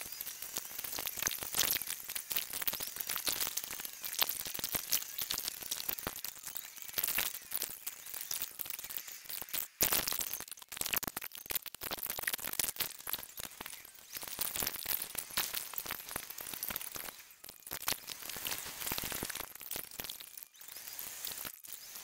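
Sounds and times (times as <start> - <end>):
rapid clicks over hiss: 0.0 - 22.0.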